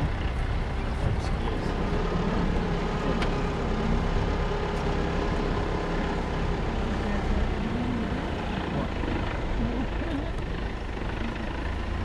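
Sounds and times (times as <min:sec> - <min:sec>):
vehicle running rumble: 0:00.0 - 0:12.0.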